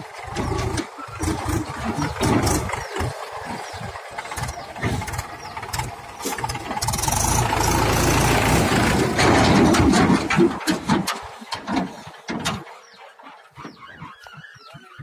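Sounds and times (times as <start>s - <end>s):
diesel engine running unevenly: 0.0s - 13.0s.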